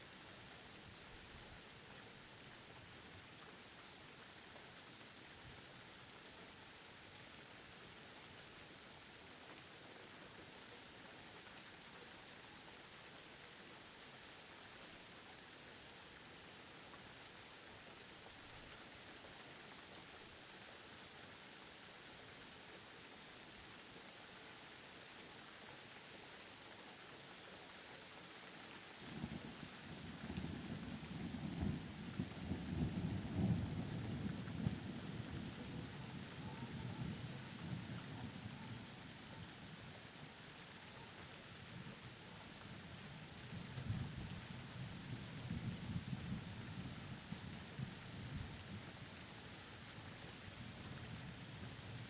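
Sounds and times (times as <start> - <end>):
faint steady rain: 0.0 - 52.0.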